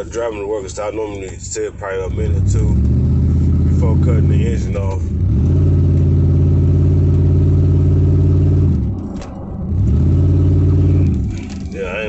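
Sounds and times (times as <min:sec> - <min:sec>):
engine exhaust running: 0:00.0 - 0:12.0.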